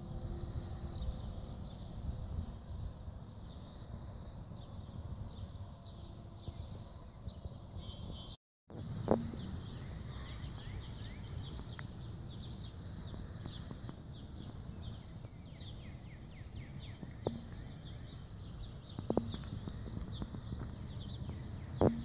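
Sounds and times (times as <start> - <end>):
low outdoor rumble: 0.0 - 22.0
birds chirping: 3.4 - 22.0.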